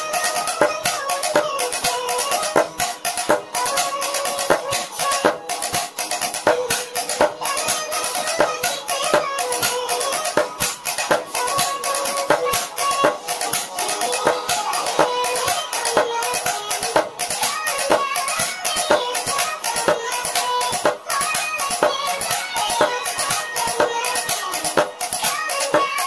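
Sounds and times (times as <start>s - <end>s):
music backing track: 0.0s - 26.0s.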